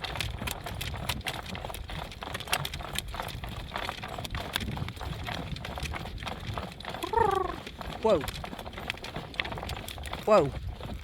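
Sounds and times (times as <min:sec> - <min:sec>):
cart rumbling: 0:00.0 - 0:11.0
horse hooves clip-clopping: 0:00.0 - 0:11.0.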